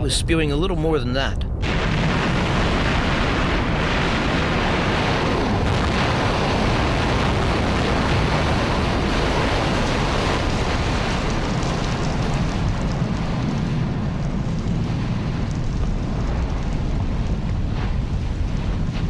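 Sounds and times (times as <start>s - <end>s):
volcano rumbling rush: 0.0s - 19.0s.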